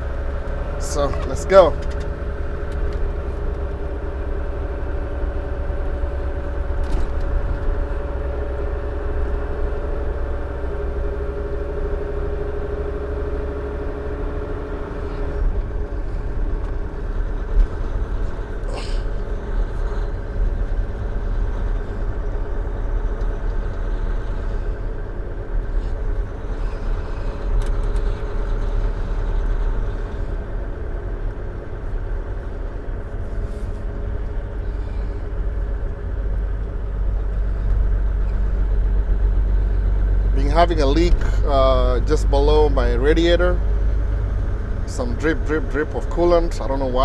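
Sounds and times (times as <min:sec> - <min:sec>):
truck diesel engine drone: 0:00.0 - 0:47.0.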